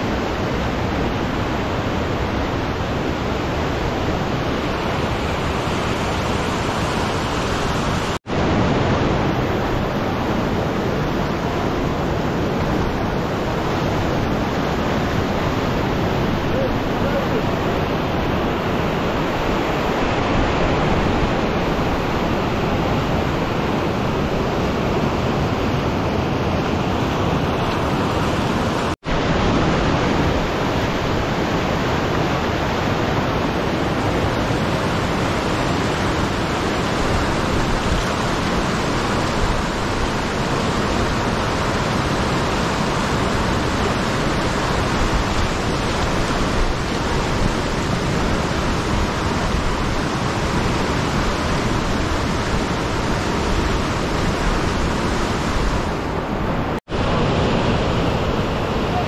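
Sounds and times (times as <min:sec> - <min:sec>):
river rushing through rapids: 0:00.0 - 0:59.0.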